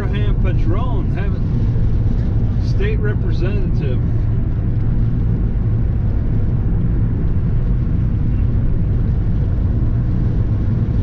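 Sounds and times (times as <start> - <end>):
car interior engine drone: 0.0 - 11.0.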